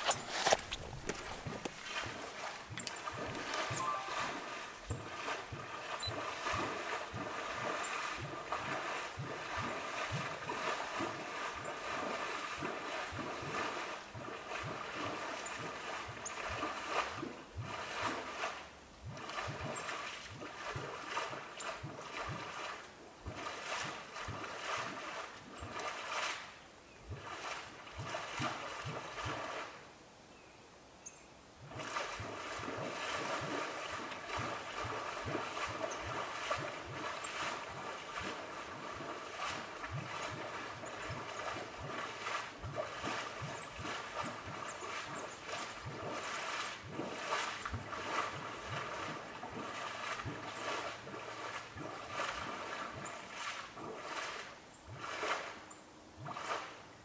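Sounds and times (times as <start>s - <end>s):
water churning and sloshing: 0.0s - 26.5s, 27.1s - 29.8s, 31.6s - 56.9s.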